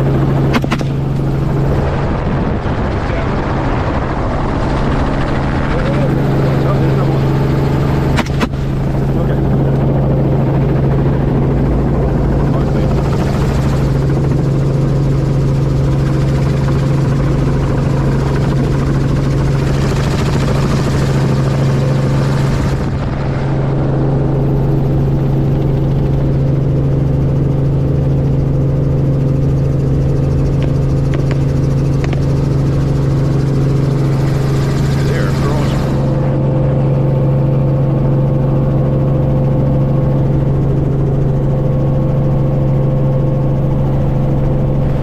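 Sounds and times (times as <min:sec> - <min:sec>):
helicopter rotor and engine: 0:00.0 - 0:45.0.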